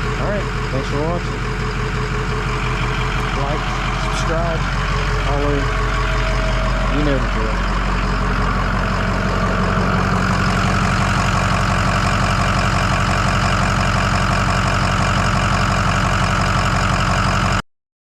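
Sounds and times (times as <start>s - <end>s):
diesel engine idling: 0.0s - 17.6s.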